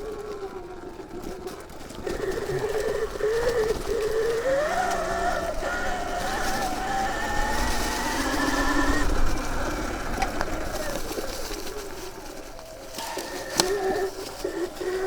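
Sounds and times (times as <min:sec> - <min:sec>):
electric motorcycle drive whine: 0:00.0 - 0:15.0
riding through brush rumble: 0:00.0 - 0:15.0.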